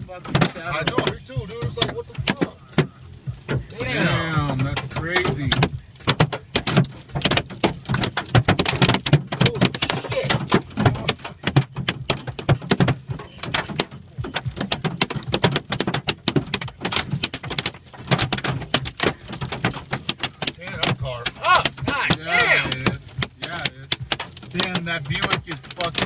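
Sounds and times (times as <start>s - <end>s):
hail hitting car roof: 0.0s - 26.0s.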